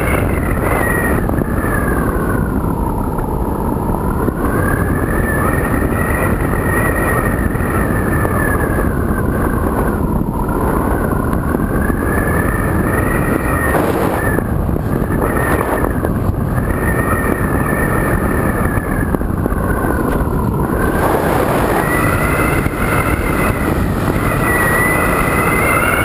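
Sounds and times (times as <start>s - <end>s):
electric motor and propeller whining: 0.0s - 26.0s
wind rush: 0.0s - 26.0s.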